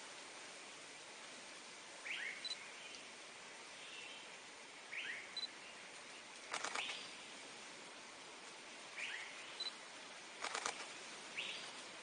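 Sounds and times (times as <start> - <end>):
forest ambience hiss: 0.0 - 12.0.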